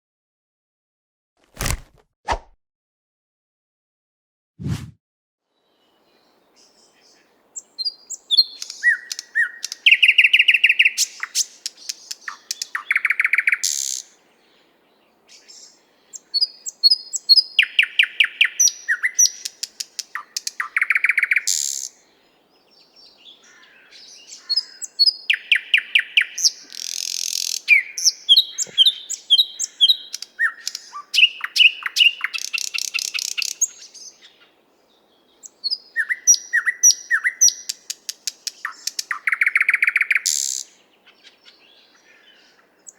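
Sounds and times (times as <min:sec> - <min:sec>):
nightingale singing: 0:05.6 - 0:42.9.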